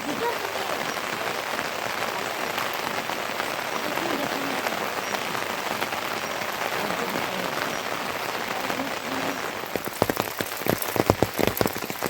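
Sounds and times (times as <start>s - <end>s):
rain falling: 0.0s - 12.0s
raindrops pattering: 0.0s - 12.0s.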